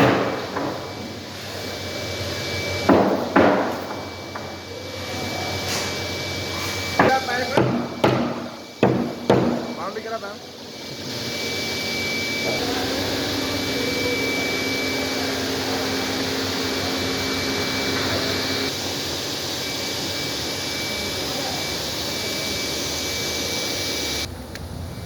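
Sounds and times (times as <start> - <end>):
machine whirring with high whine: 0.0 - 25.0.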